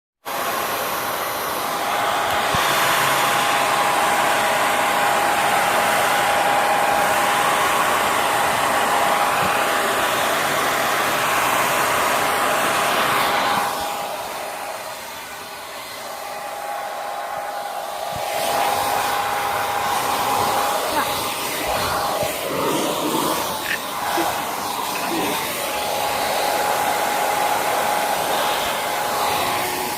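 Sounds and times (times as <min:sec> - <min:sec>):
hair dryer running: 0:00.3 - 0:29.9.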